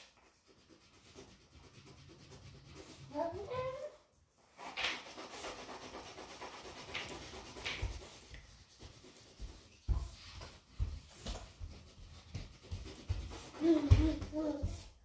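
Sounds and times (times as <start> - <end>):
crayon rubbing on paper: 0.0 - 15.0.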